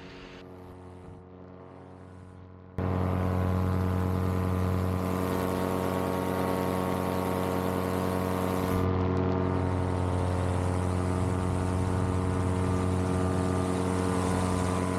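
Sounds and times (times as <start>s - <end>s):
two-stroke engine and propeller: 0.0s - 14.9s.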